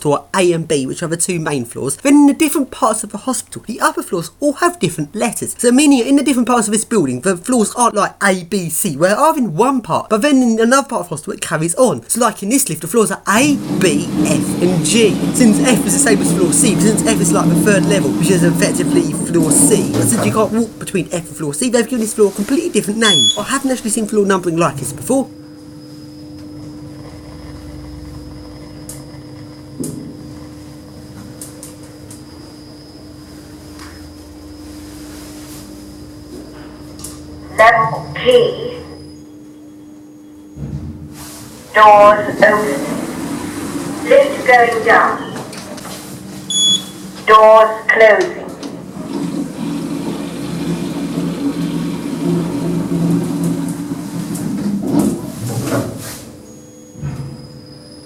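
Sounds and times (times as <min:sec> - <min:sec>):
lift mechanical hum: 0:00.0 - 0:58.0.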